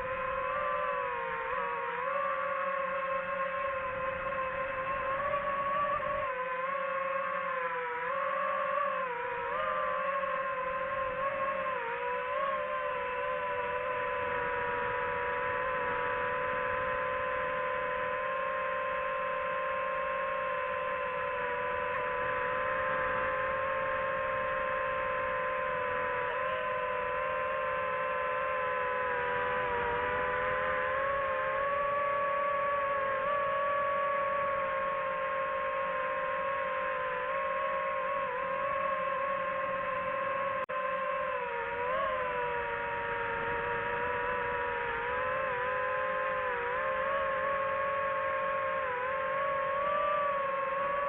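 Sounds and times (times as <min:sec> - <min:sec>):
drone propellers whining: 0:00.0 - 0:51.0.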